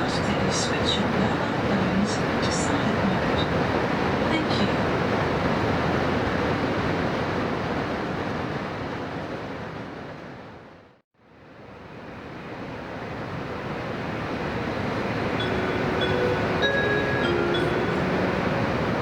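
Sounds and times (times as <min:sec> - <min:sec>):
train running at speed: 0:00.0 - 0:11.0, 0:11.6 - 0:19.0.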